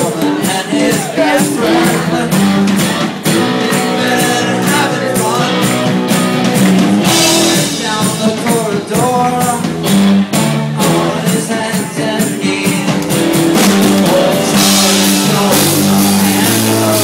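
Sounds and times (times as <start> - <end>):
person singing: 0.0 - 9.9, 10.6 - 17.0
drumbeats: 0.0 - 17.0
live rock band playing: 0.0 - 17.0.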